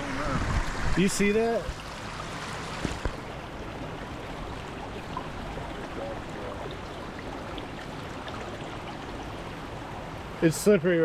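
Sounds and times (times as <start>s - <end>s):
stream and waterfalls rushing: 0.0s - 11.0s.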